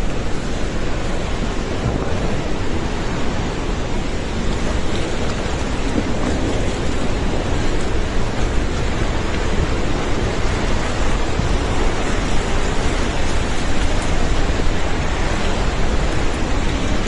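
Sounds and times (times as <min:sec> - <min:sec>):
flooding river rushing: 0:00.0 - 0:17.0.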